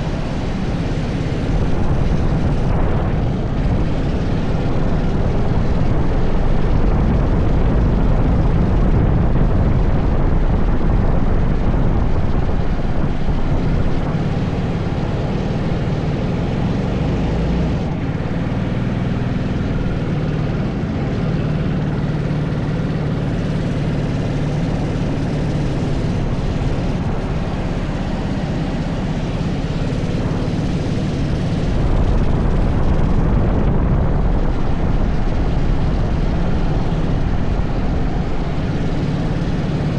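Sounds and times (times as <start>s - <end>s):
racing kart engine under load: 0.0s - 39.9s.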